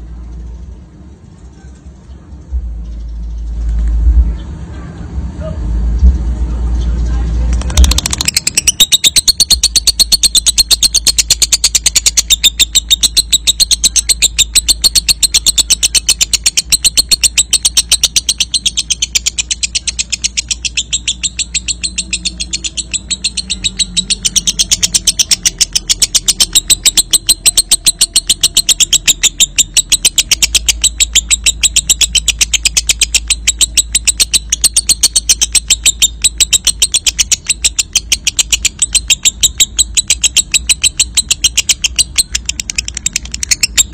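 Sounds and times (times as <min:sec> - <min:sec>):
low steady hum: 0:00.0 - 0:43.9
lovebird chattering trill: 0:07.6 - 0:43.9.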